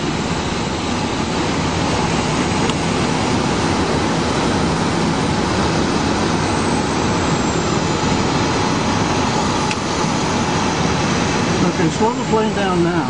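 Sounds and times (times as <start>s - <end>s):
air rushing past canopy: 0.0s - 13.0s.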